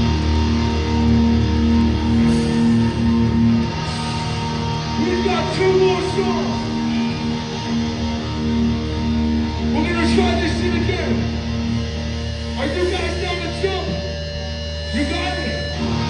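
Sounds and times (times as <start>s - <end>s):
distorted electric guitar riff: 0.0s - 16.0s.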